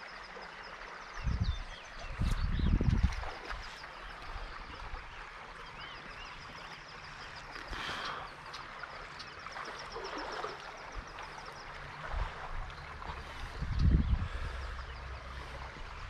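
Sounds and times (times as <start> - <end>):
creek trickling: 0.0 - 16.0
water rush: 0.0 - 16.0.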